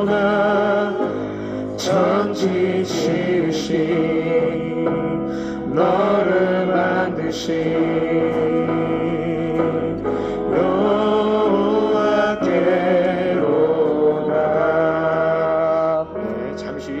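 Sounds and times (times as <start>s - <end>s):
sustained instrumental backing: 0.0s - 17.0s.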